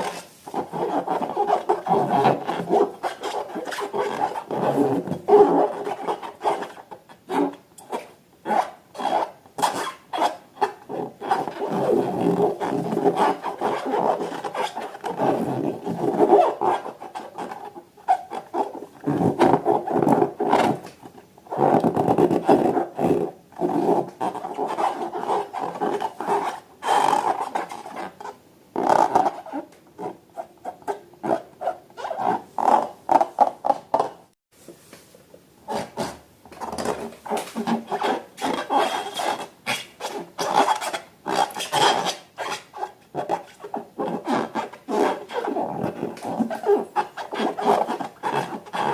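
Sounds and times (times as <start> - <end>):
rubber rubbing and squeaking: 0.0 - 34.4, 35.6 - 48.9.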